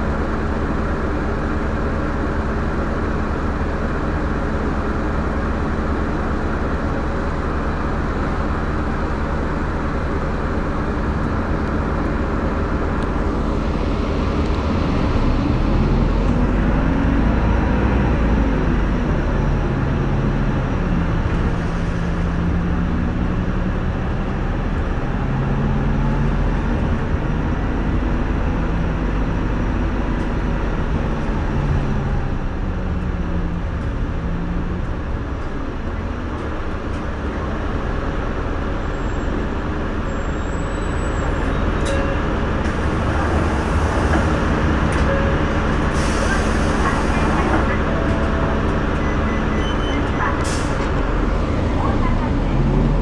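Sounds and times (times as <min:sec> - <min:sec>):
bus engine drone: 0:00.0 - 0:53.0
road rumble: 0:00.0 - 0:53.0.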